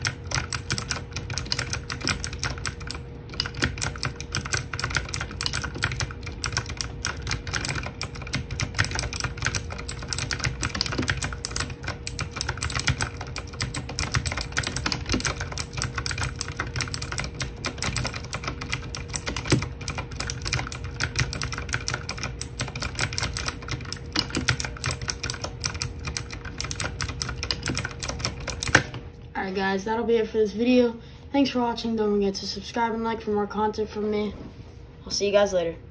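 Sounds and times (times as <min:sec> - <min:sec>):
mechanical keyboard typing: 0:00.0 - 0:29.0.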